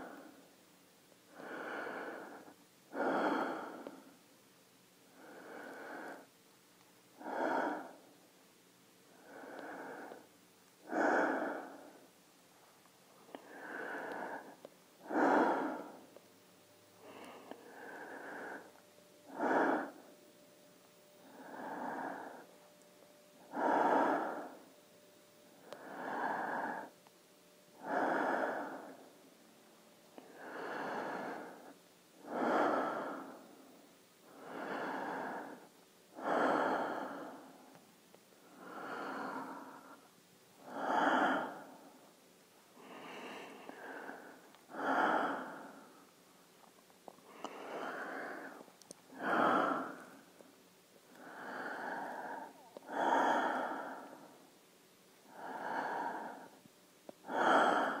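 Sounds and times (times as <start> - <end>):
breathing through a mask: 1.3 - 4.2, 5.1 - 6.4, 7.2 - 8.1, 9.1 - 12.1, 13.2 - 16.2, 17.0 - 20.4, 21.0 - 29.3, 30.2 - 37.8, 38.4 - 42.1, 42.8 - 46.1, 47.3 - 50.5, 51.1 - 54.6, 55.2 - 56.6, 57.2 - 58.0.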